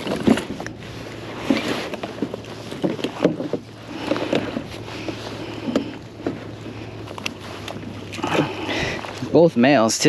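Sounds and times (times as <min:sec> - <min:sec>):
waves slapping plastic hull: 0:00.0 - 0:10.0.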